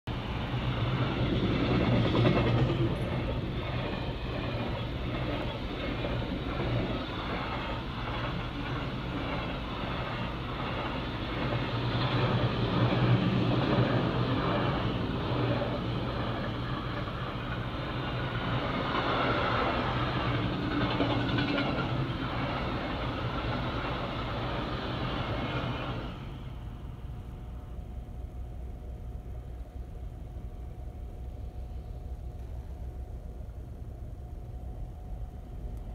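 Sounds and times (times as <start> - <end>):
freight train passing: 0.1 - 35.9.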